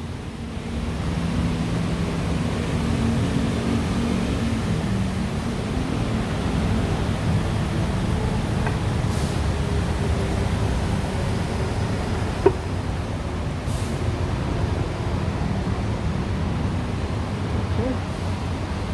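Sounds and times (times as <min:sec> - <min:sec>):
engine droning: 0:00.7 - 0:18.9.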